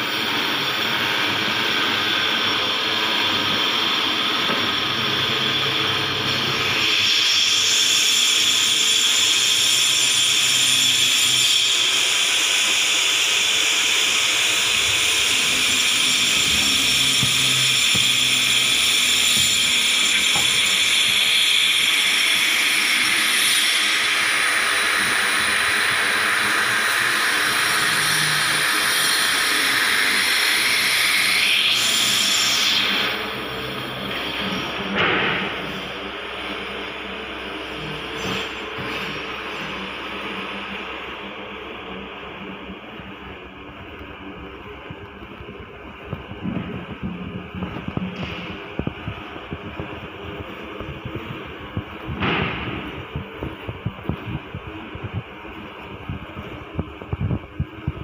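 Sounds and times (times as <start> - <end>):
machine whir and hiss: 0.0 - 58.0.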